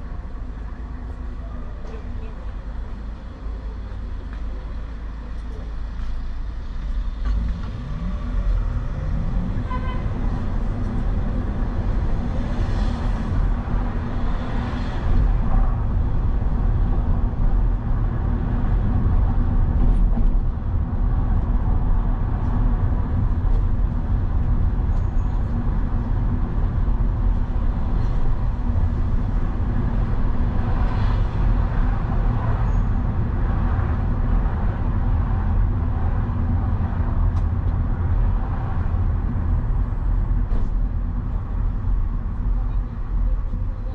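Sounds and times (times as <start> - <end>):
vehicle engine and road rumble: 0.0 - 43.9.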